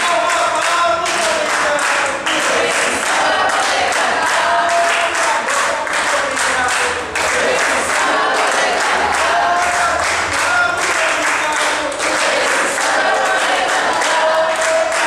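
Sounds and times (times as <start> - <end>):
group of voices singing: 0.0 - 15.0
hand clapping: 0.0 - 15.0.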